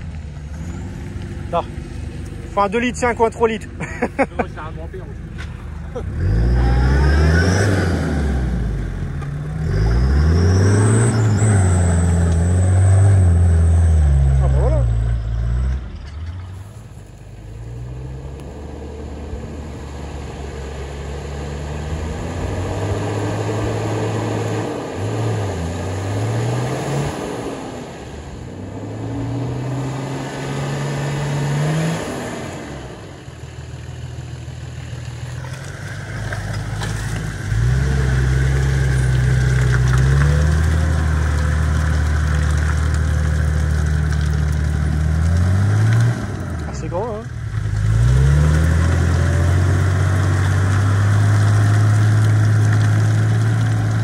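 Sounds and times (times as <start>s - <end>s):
off-road engines revving: 0.0s - 54.0s.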